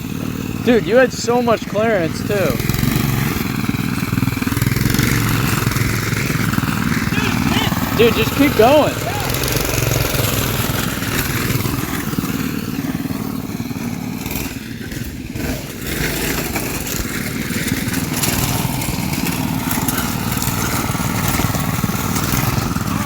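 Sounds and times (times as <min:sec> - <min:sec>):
small gasoline engines running: 0:00.0 - 0:23.0.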